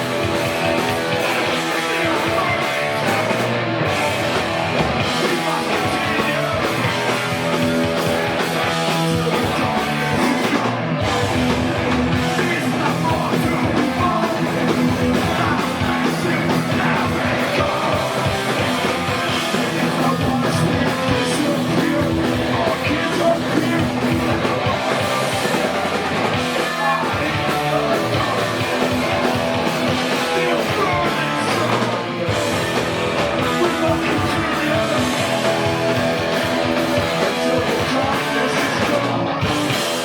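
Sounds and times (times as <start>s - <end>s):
electric guitar: 0.0s - 40.0s
live rock band: 0.0s - 40.0s.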